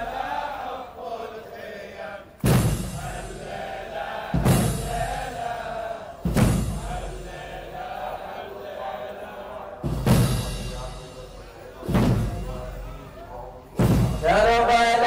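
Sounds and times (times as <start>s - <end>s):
people chanting together: 0.0s - 15.0s.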